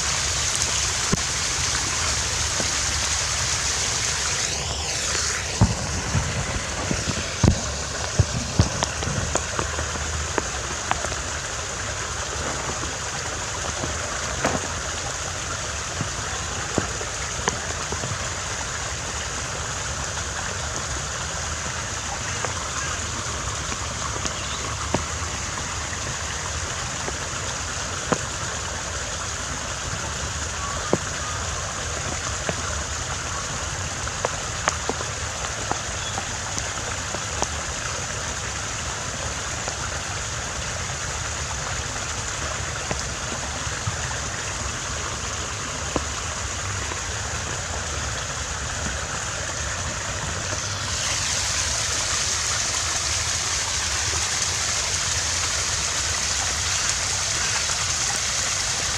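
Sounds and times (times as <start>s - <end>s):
water drips and plinks: 0.0s - 58.9s
water trickling and splashing: 0.0s - 58.9s.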